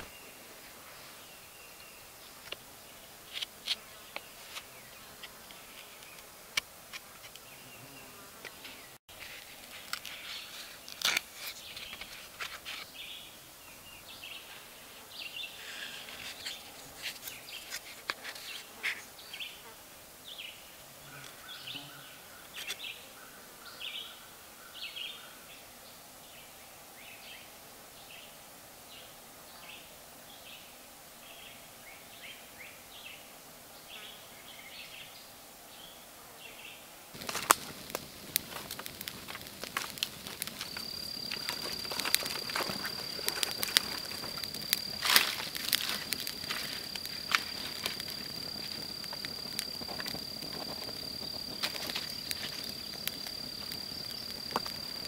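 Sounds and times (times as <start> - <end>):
faint insect buzz: 0.0 - 12.1, 12.8 - 55.0.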